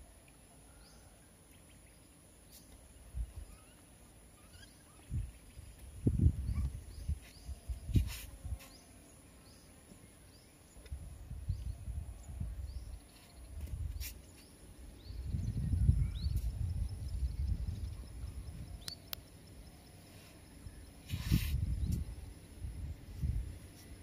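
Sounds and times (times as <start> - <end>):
small birds chirping: 0.2 - 24.0.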